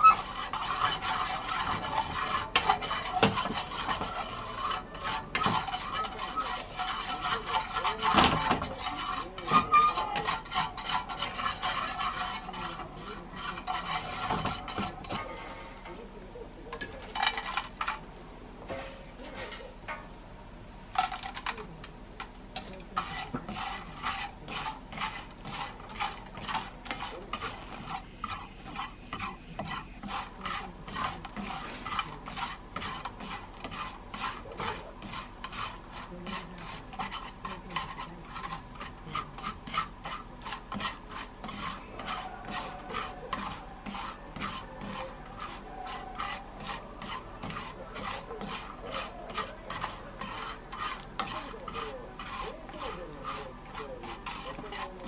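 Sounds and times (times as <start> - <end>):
fish being stirred in a pan: 0.0 - 16.2, 17.0 - 55.0.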